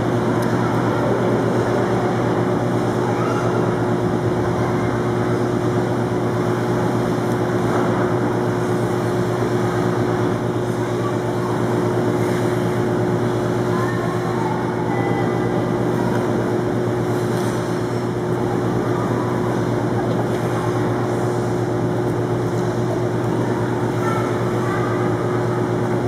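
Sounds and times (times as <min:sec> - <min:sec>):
low constant hum: 0:00.0 - 0:26.0
steady mechanical drone: 0:00.0 - 0:26.0.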